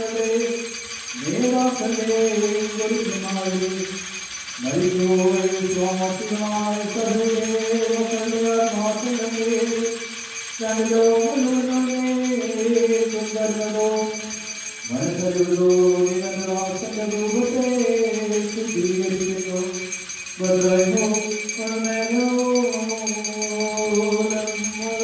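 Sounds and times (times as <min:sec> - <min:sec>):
liturgical chant: 0:00.0 - 0:25.0
metal jingling: 0:00.0 - 0:25.0.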